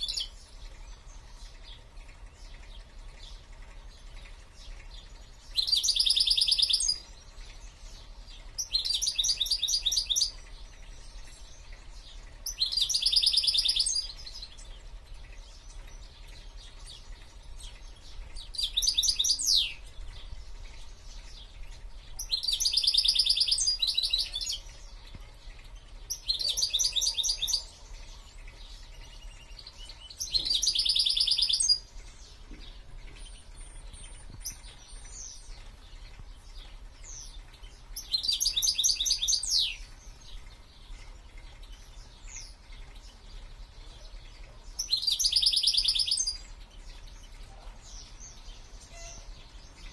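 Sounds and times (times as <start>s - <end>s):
caged songbird singing trills: 0.0s - 49.9s.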